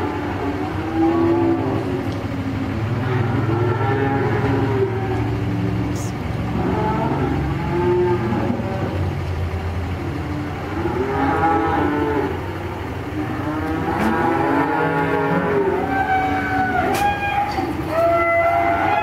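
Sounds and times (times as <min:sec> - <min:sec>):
cattle mooing: 0:00.0 - 0:19.0
steady low hum: 0:00.0 - 0:19.0.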